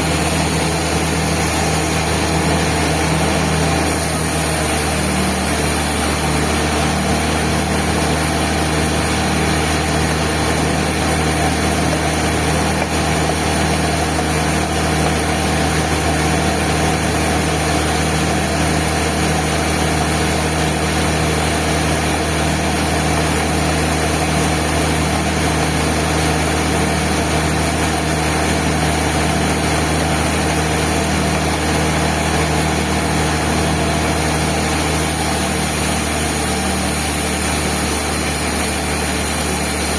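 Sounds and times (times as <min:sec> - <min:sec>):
band saw mill running: 0:00.0 - 0:39.9.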